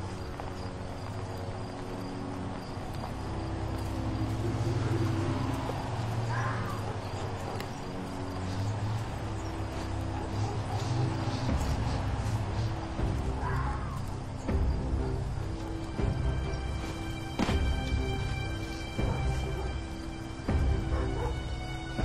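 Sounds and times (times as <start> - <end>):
crickets chirping: 0.0 - 22.0
motor vehicle hum: 0.0 - 22.0.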